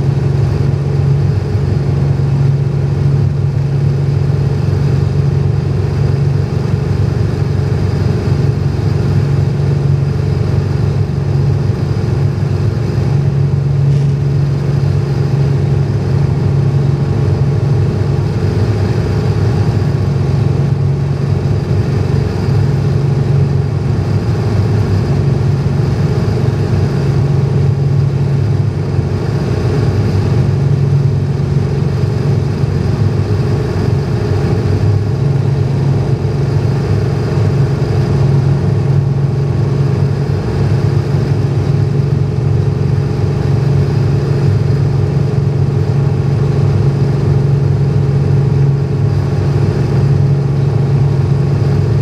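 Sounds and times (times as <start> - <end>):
airplane engine and propeller droning: 0.0 - 52.0.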